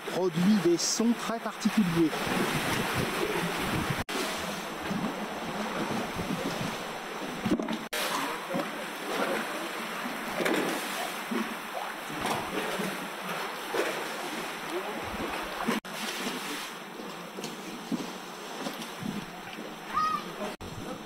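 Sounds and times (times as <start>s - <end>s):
sea water sloshing in jetty: 0.0s - 21.0s.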